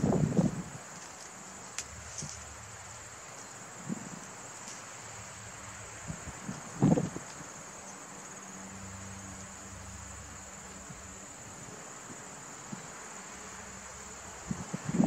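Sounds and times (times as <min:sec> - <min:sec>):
insect chirring: 0:00.0 - 0:15.0
outdoor hiss: 0:00.0 - 0:15.0.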